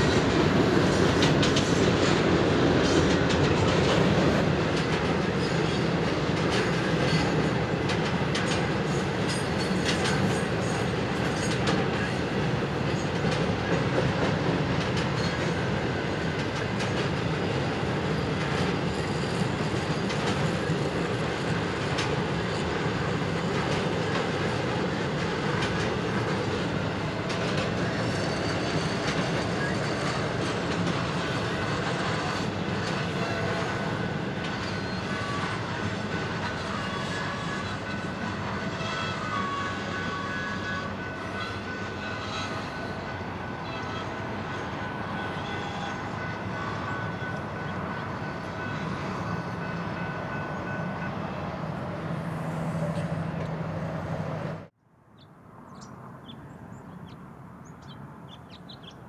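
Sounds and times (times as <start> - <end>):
train wheels rumbling on rails: 0.0 - 54.8.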